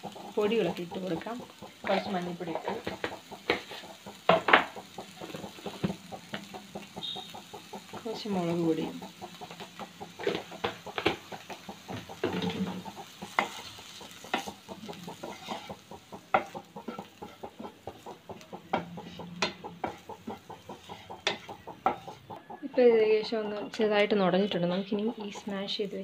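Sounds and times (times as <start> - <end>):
spatula scraping a frying pan: 0.0 - 7.9, 9.2 - 22.3
onions sizzling: 0.0 - 26.0.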